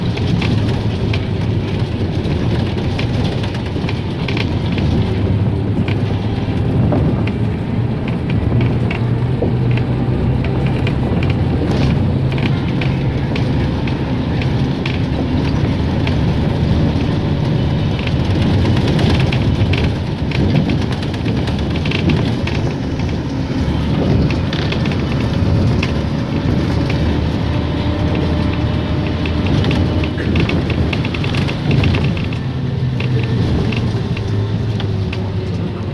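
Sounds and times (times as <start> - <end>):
rattles and knocks: 0.0 - 35.7
car engine and tyre drone: 0.0 - 35.9.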